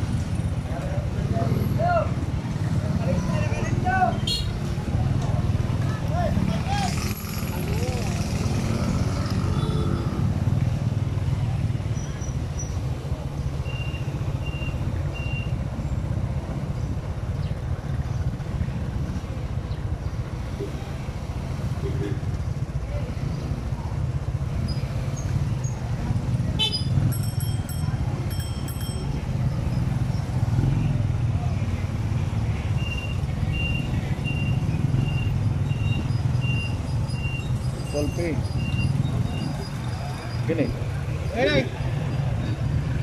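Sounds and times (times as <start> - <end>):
motorcycle engine rumbling: 0.0 - 43.0
road noise: 0.0 - 43.0.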